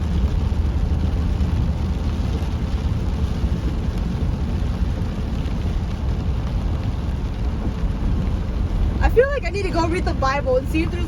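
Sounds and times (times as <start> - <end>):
heavy rain on car: 0.0 - 11.0
road and engine rumble: 0.0 - 11.0.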